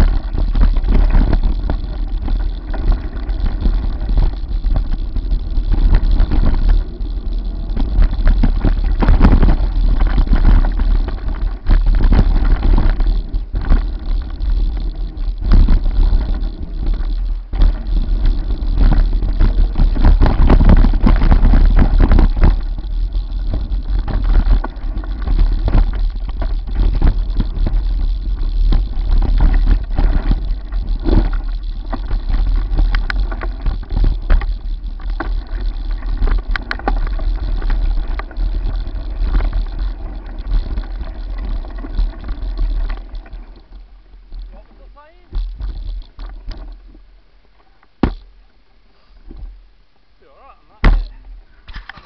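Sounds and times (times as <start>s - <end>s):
wind rumble on microphone: 0.0s - 47.2s
bike tyres and frame rattling: 0.0s - 50.1s, 50.8s - 52.0s.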